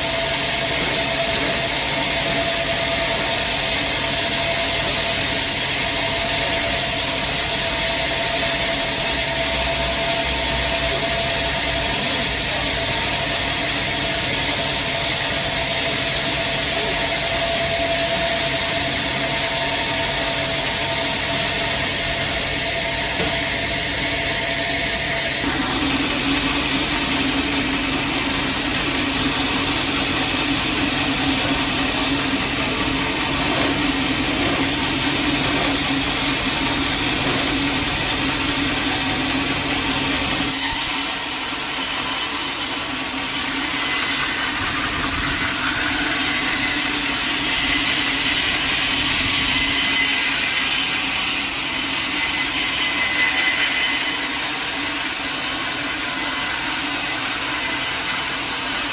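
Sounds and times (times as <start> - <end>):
sawmill machinery whine: 0.0 - 58.9.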